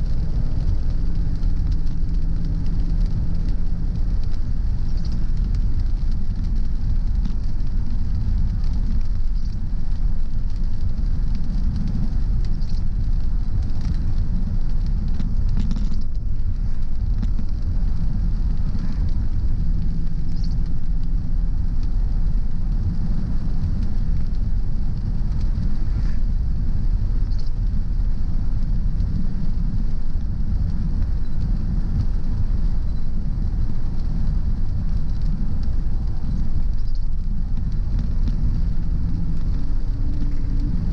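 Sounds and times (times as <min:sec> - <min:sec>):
road and engine rumble: 0:00.0 - 0:40.9
tyre noise on wet road: 0:00.0 - 0:40.9
faint ticks: 0:00.1 - 0:40.9.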